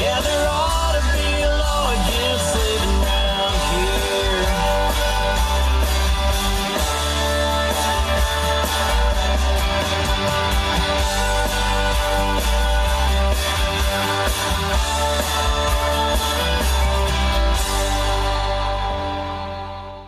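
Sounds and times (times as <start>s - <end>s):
song with guitar on car radio: 0.0s - 20.0s.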